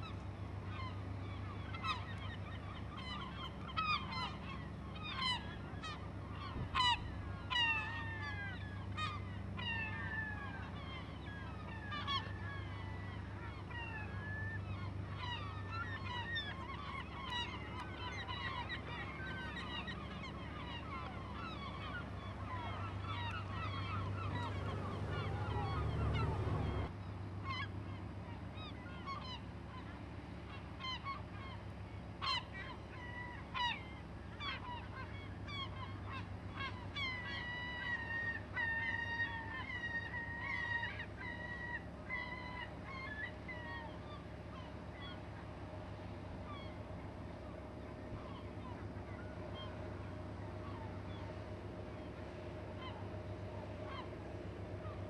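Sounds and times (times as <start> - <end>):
gulls calling: 0.0 - 55.0
low engine drone: 0.0 - 55.0.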